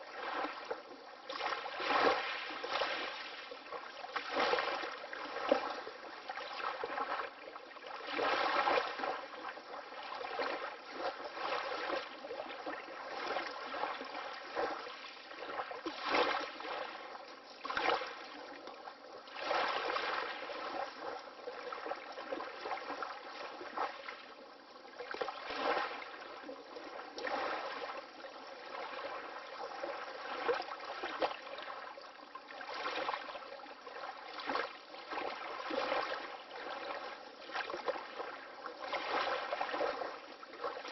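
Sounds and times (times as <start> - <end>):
small waves splashing: 0.0 - 40.9.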